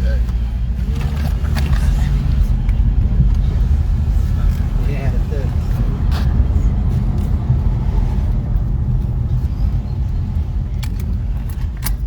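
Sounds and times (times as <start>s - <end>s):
car road rumble inside cabin: 0.0s - 12.0s.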